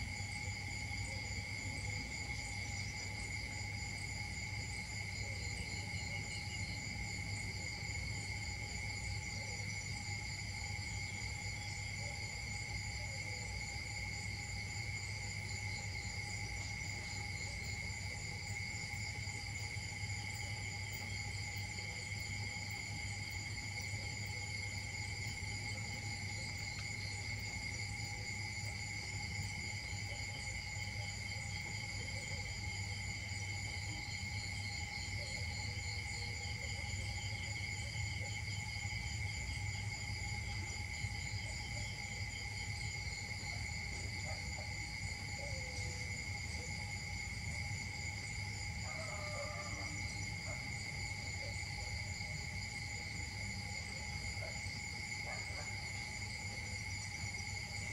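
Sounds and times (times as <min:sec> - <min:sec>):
insects droning high-pitched: 0:00.0 - 0:57.9.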